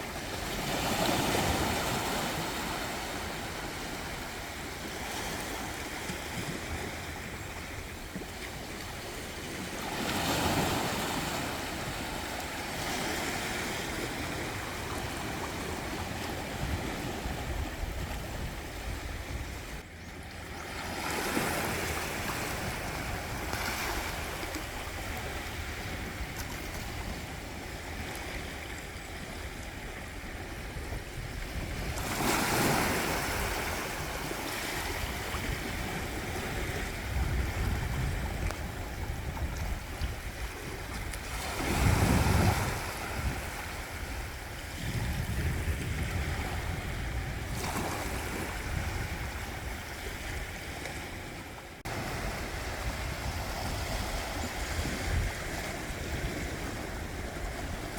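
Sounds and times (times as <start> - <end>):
sea waves breaking on beach: 0.0 - 57.9
wind rumble on microphone: 0.0 - 57.9.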